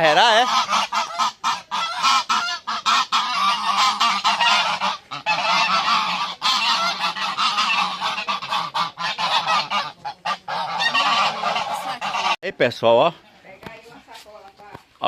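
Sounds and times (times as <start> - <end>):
geese honking: 0.0 - 12.4.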